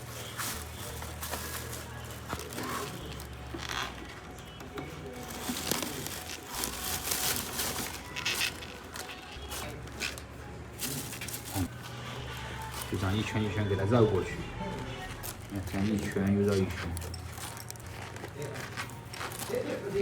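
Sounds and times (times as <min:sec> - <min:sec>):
plastic tape crinkling: 0:00.0 - 0:13.5, 0:14.7 - 0:20.0
background music: 0:00.0 - 0:20.0.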